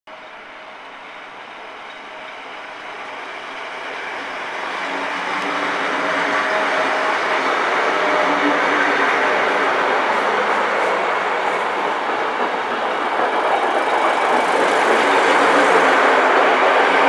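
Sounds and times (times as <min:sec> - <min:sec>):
electric train passing: 0:00.2 - 0:17.0.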